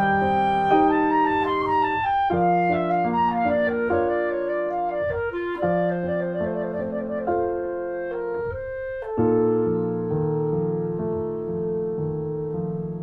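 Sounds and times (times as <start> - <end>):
piano: 0.0 - 13.0
woodwind melody: 0.0 - 13.0.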